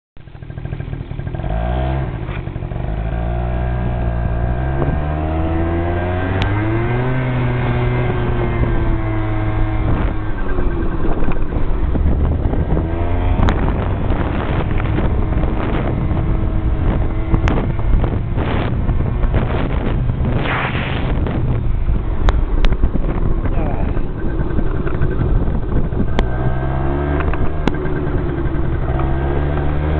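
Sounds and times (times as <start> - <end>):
vehicle engine running: 0.2 - 29.9.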